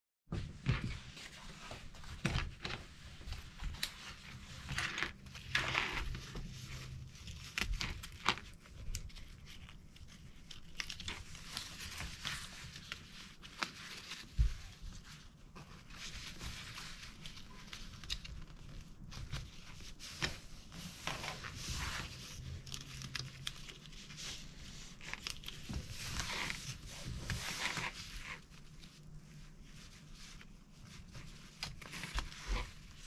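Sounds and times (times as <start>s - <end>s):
webbing rustling and sliding: 0.3s - 33.0s.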